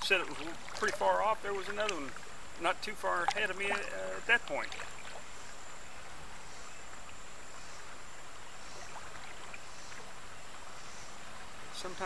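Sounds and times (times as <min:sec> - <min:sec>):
river water washing around kayak: 0:00.0 - 0:12.0.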